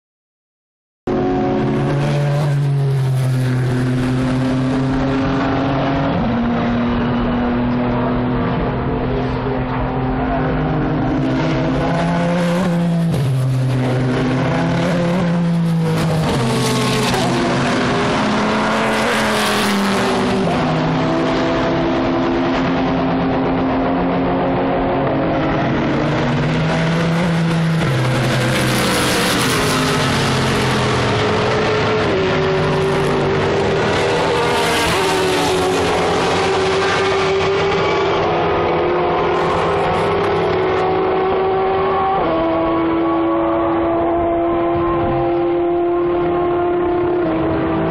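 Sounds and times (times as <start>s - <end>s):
race car engines passing: 1.1s - 47.9s.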